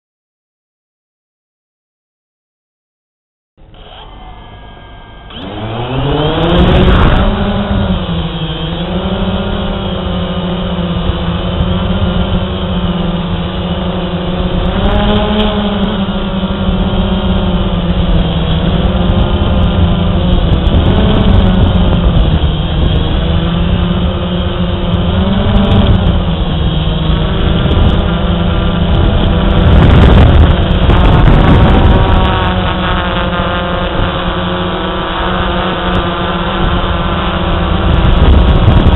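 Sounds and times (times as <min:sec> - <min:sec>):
drone propellers humming: 0:03.6 - 0:38.9.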